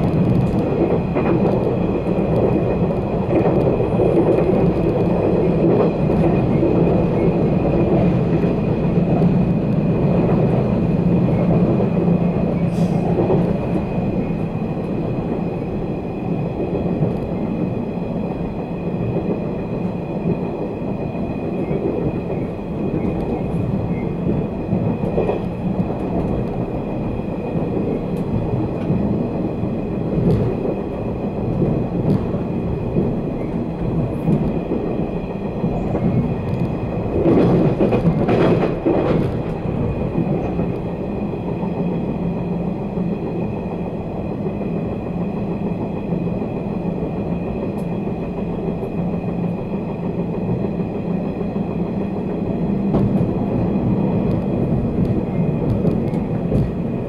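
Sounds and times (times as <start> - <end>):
rail joint clicks: 0.0 - 57.0
train wheels rumbling on rails: 0.0 - 57.0.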